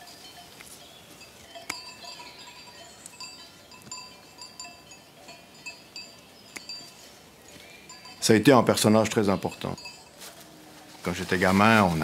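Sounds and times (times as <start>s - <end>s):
small bells tinkling: 0.0s - 12.0s.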